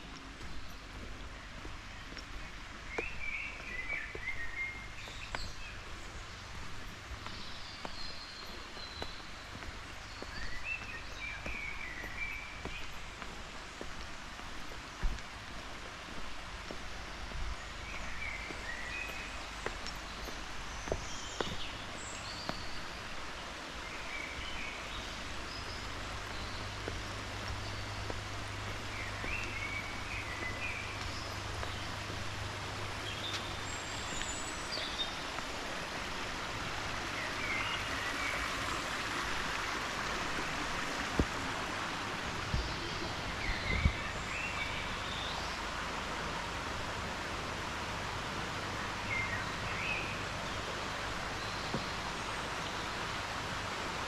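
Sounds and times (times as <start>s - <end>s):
small birds chirping: 0.0s - 46.9s, 48.5s - 53.8s.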